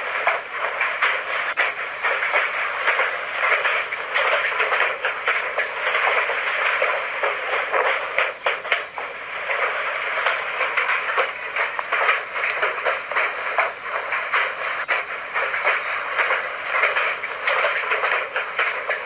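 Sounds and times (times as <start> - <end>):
hailstones clattering: 0.0 - 19.0.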